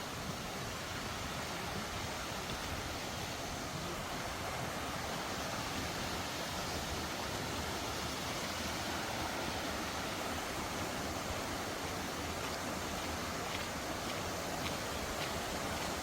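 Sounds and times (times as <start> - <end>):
stream rushing: 0.0 - 16.0.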